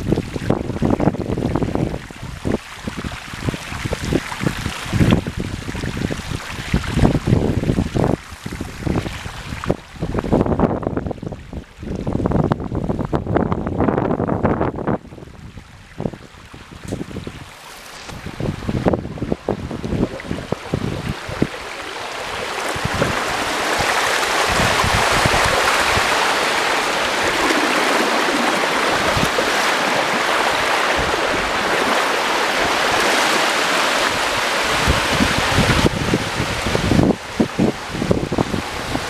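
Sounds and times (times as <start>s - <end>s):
floodwater rushing and sloshing: 0.0s - 13.9s, 14.6s - 39.0s
wind thumping on microphone: 0.0s - 39.0s.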